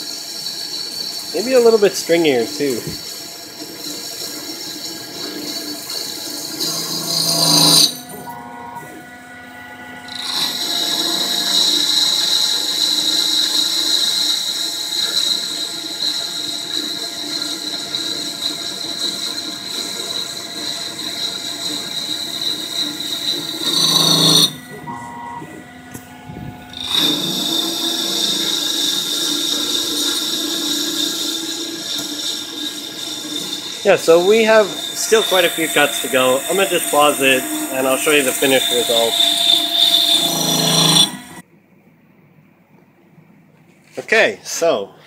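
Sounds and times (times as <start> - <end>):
lathe cutting metal whine: 0.0 - 41.4.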